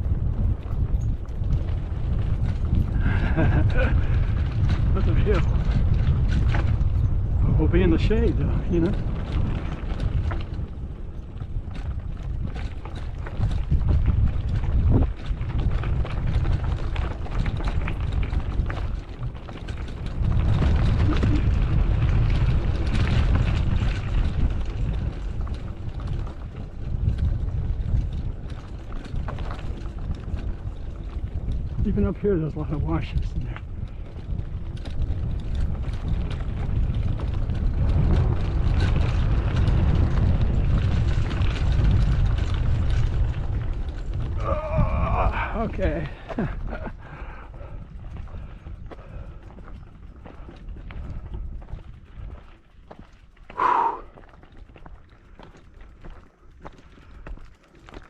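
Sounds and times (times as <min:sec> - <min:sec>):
bike clicks and rattles: 0:00.0 - 0:58.0
wind buffeting microphone: 0:00.0 - 0:58.0.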